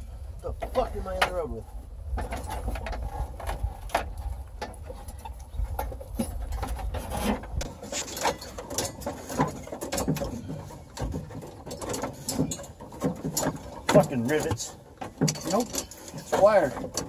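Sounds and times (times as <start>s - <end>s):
tools knocking and rattling: 2.1s - 17.0s.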